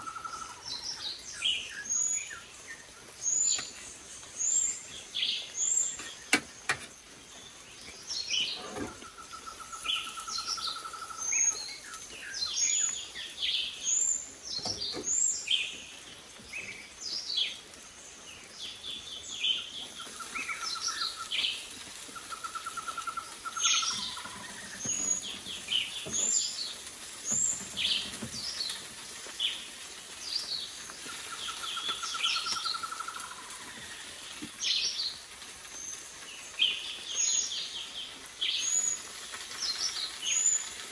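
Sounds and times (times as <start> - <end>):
forest birds chirping: 0.0 - 40.9.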